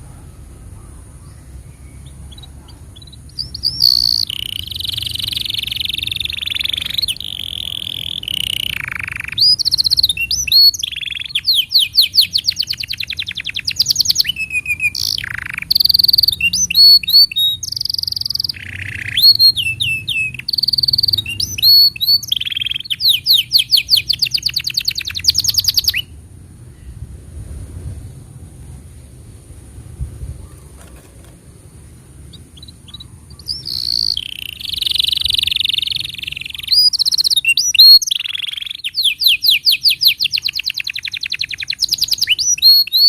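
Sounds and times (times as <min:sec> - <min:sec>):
faint low hum: 0:00.0 - 0:38.2
canary singing: 0:00.6 - 0:26.2, 0:30.4 - 0:43.0.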